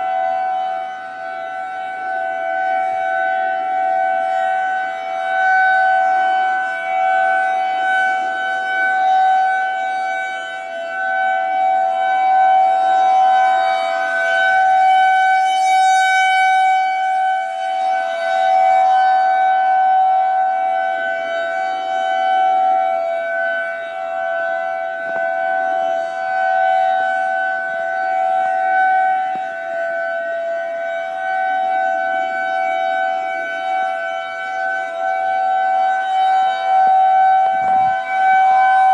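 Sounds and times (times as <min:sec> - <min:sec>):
rotating warning siren steady tone: 0:00.0 - 0:38.9.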